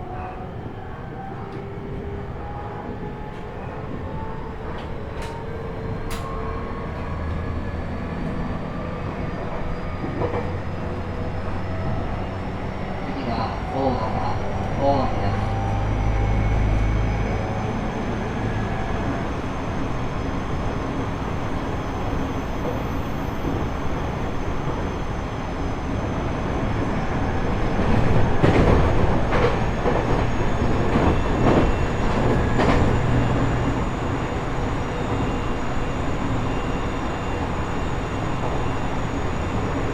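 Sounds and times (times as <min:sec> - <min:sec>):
electric train running: 0:04.7 - 0:39.9.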